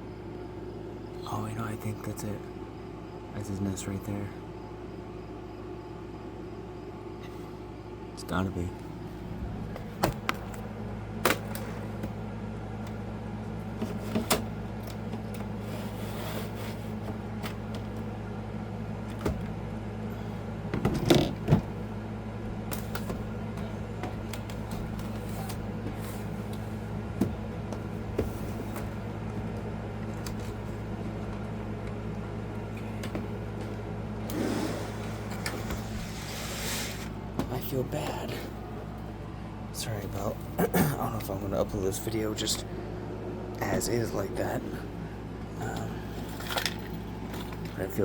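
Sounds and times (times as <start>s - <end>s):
steady low machine hum: 0.0s - 48.0s.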